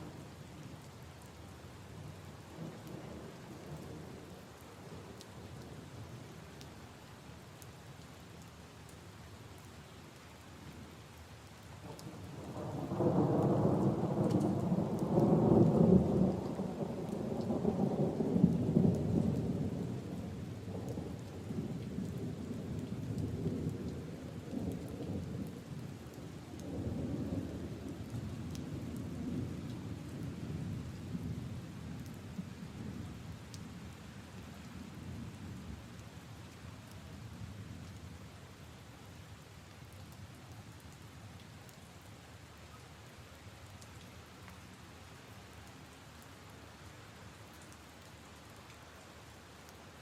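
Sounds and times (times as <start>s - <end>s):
rain pattering on puddles: 0.0s - 50.0s.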